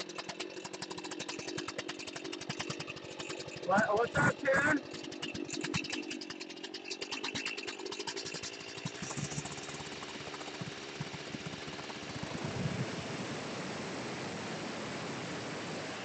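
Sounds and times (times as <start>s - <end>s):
chainsaw engine running: 0.0s - 16.0s.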